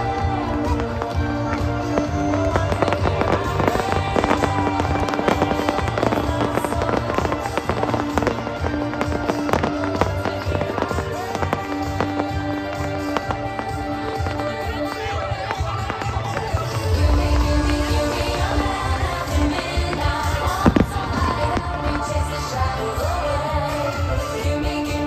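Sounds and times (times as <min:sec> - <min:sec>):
fireworks bursting and crackling: 0:00.0 - 0:25.0
music with steady beat: 0:00.0 - 0:25.0.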